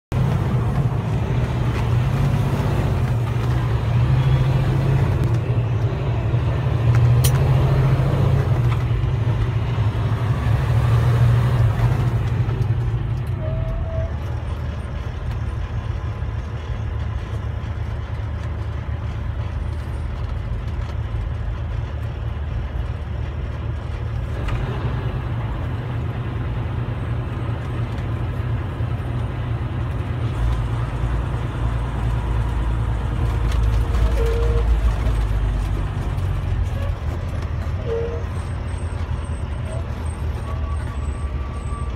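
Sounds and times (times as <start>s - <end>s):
road noise: 0.0s - 41.9s
truck engine hum: 0.0s - 41.9s.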